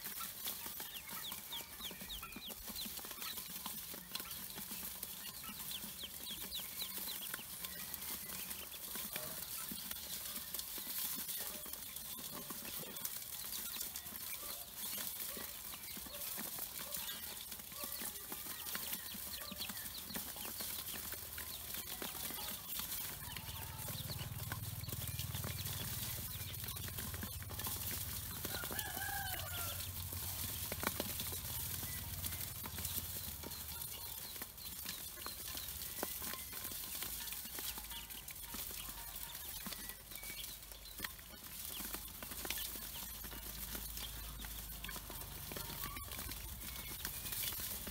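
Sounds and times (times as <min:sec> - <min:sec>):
ducklings peeping: 0:00.0 - 0:47.9.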